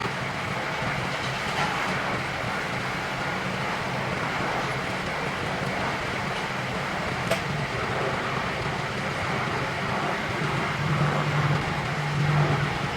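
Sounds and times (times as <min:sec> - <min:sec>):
steady machine noise: 0:00.0 - 0:12.9.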